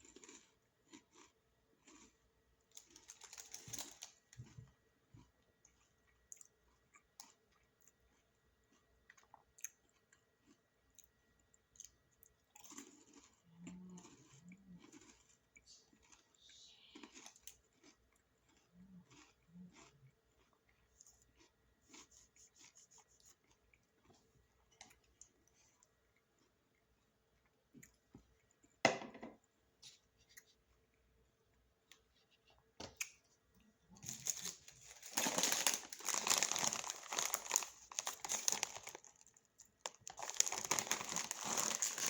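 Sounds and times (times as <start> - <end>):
person chewing and crunching: 0.0 - 28.8, 33.0 - 42.0.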